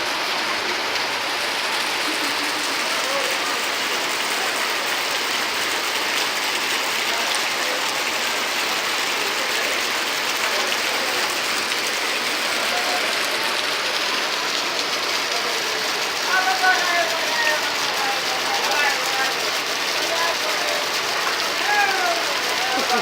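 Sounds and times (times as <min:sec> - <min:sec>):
heavy rain: 0:00.0 - 0:23.0
rushing flood water: 0:00.0 - 0:23.0.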